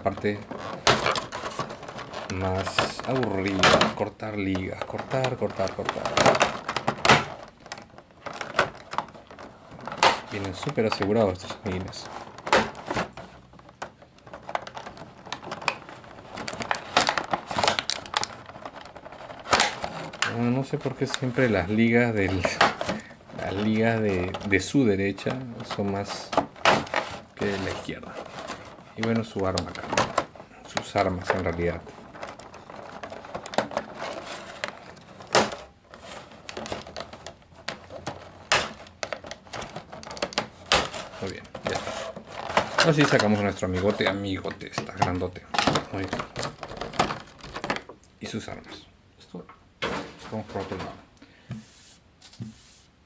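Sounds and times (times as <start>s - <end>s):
plastic packaging clicks and rattles: 0.0s - 48.6s
plastic blister tray crackling: 0.0s - 48.7s.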